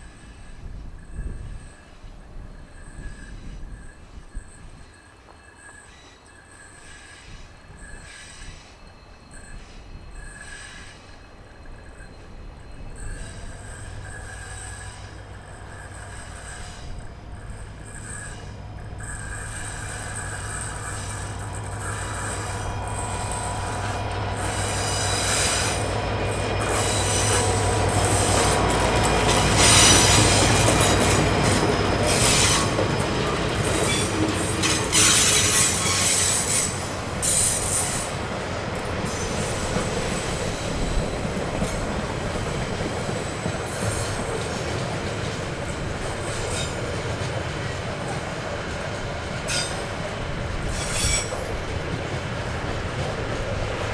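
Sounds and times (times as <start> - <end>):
train rolling past: 0.0 - 53.9
wheels clacking on rails: 0.0 - 53.9.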